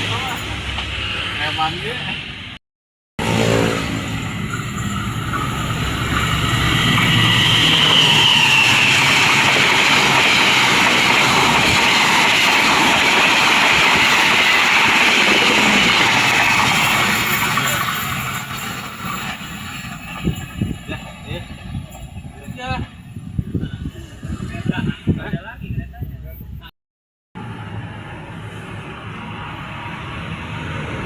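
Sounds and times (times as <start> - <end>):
train passing with rail noise: 0.0 - 2.6, 3.2 - 26.6, 27.4 - 31.0.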